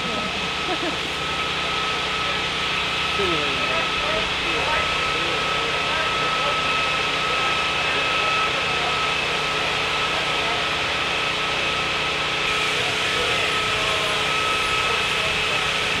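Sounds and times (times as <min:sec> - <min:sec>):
engine running steadily: 0:00.0 - 0:16.0
high-pitched whine: 0:00.0 - 0:16.0.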